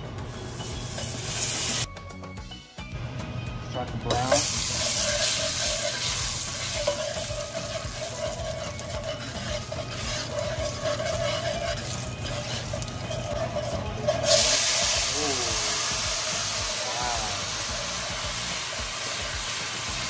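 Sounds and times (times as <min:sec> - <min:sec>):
sugar sizzling in hot oil: 0:00.2 - 0:01.9, 0:04.1 - 0:20.0
metal spoon scraping a frying pan: 0:00.5 - 0:01.9, 0:04.2 - 0:19.9.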